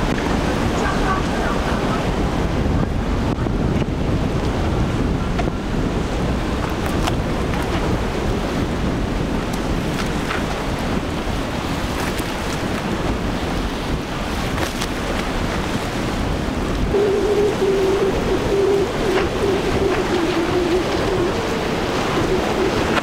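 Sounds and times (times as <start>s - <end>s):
outboard motor drone: 0.0s - 23.0s
rushing water of boats: 0.0s - 23.0s
wind buffeting microphone: 0.0s - 23.0s.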